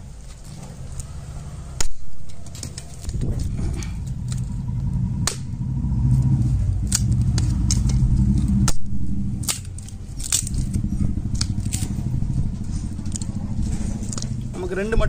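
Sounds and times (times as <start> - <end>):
vehicle engine humming: 0.0 - 15.0
dry frond stalk cracking: 1.8 - 14.6.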